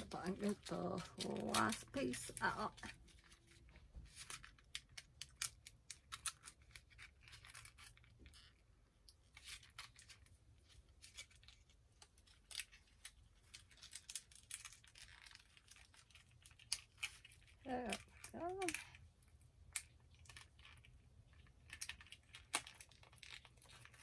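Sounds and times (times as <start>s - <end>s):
plastic bag crinkling and clicking: 0.0s - 24.0s.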